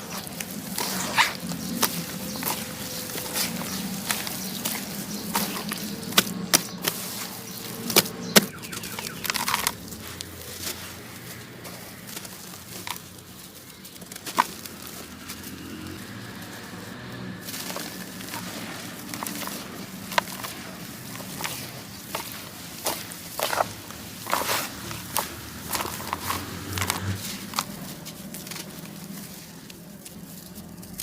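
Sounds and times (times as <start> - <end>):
sand-cement lumps cracking into water: 0.0 - 31.0.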